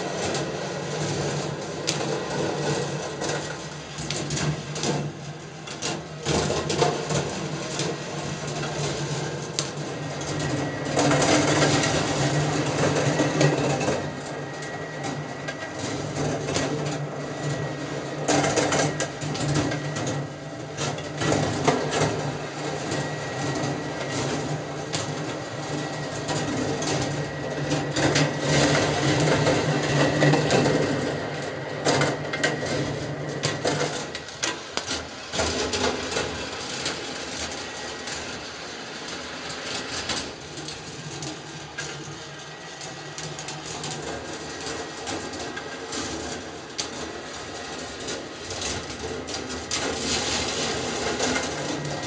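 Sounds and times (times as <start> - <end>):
balls rattling along metal tracks: 0.0 - 52.0.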